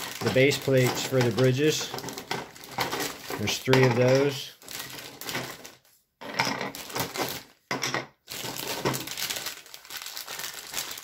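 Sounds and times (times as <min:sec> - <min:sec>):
hard plastic pieces clacking: 0:00.0 - 0:05.8, 0:06.6 - 0:11.0
plastic bag crinkling: 0:00.0 - 0:06.0, 0:06.7 - 0:07.6, 0:08.2 - 0:11.0.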